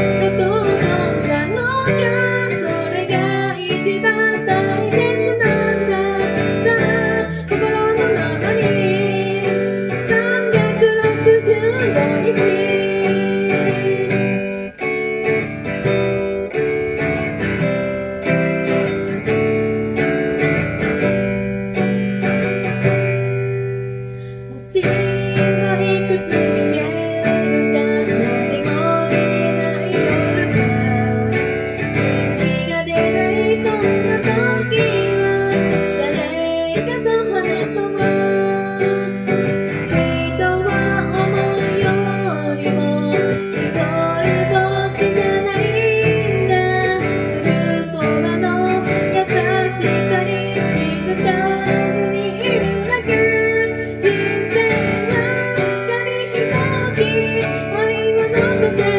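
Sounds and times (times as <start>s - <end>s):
acoustic guitar strumming: 0.0s - 58.9s.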